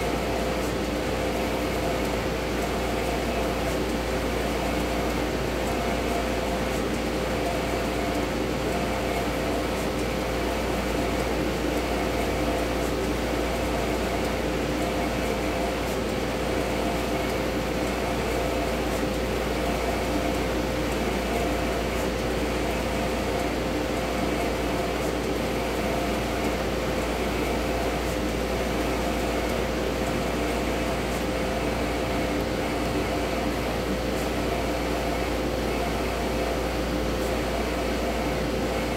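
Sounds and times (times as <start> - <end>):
printer mechanical hum: 0.0 - 38.9.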